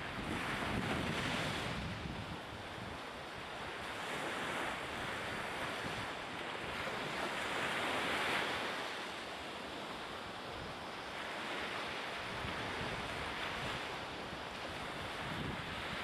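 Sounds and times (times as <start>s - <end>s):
rushing wind: 0.0s - 16.0s.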